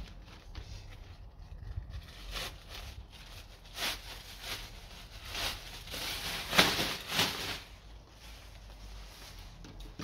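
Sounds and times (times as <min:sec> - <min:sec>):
fabric bag rustling and flapping: 0:00.0 - 0:09.7.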